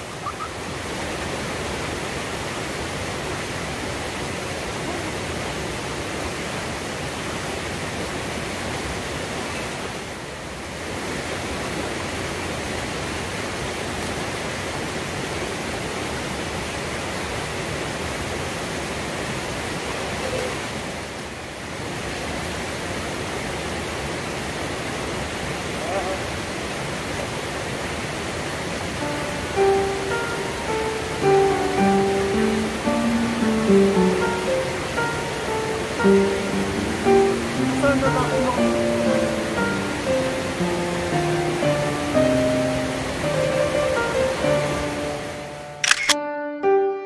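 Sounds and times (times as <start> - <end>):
stream rushing over rocks: 0.0 - 45.8.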